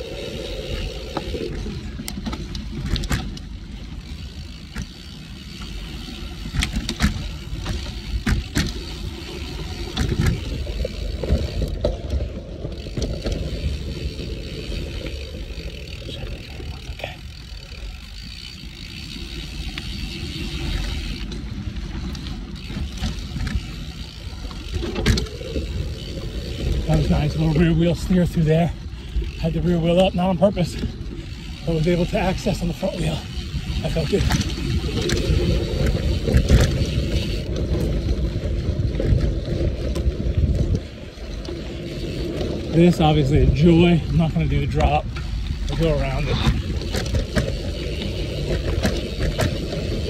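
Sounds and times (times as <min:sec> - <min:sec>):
bike clacking and rattling: 0:00.0 - 0:50.0
bike tyres rolling over dirt: 0:00.0 - 0:50.0.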